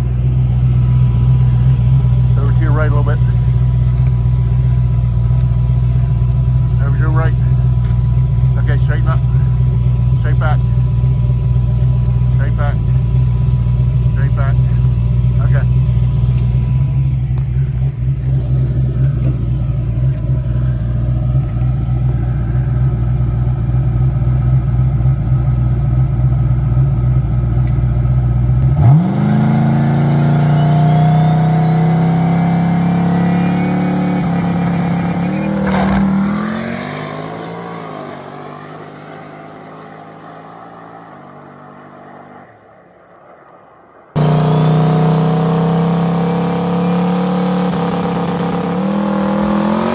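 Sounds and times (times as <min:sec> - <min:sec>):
turbo whine: 0:00.0 - 0:39.2, 0:44.1 - 0:49.9
drag car engine revving: 0:00.0 - 0:42.5, 0:44.1 - 0:49.9
engine running: 0:00.0 - 0:43.3, 0:44.0 - 0:49.9.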